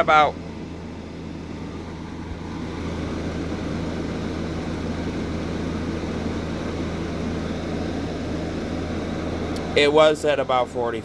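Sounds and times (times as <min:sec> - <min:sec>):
air conditioner fan running: 0:00.0 - 0:11.0.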